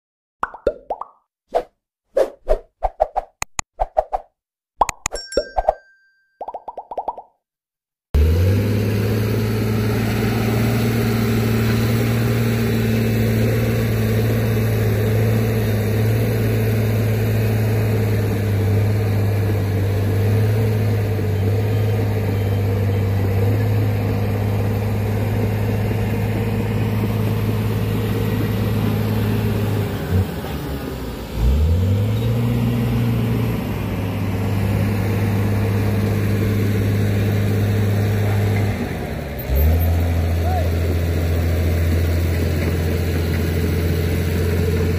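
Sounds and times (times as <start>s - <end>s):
diesel truck engine running: 8.2s - 44.9s.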